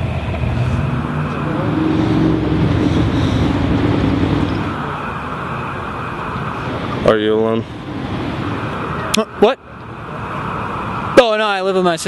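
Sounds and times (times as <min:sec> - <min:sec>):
motor vehicle passing by: 0:00.0 - 0:11.2.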